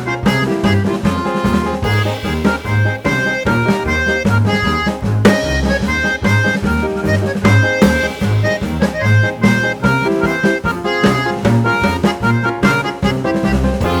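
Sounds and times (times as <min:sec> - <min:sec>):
drum hits: 0:00.0 - 0:14.0
melody of held notes: 0:00.0 - 0:14.0
repeating bass line: 0:00.0 - 0:14.0.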